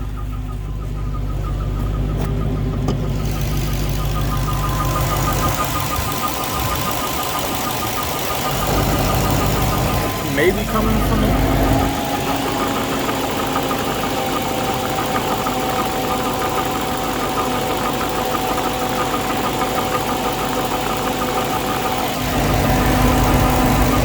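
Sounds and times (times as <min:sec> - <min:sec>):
car engine idling: 0:00.0 - 0:24.0
rapid chirping under hood: 0:00.0 - 0:24.0.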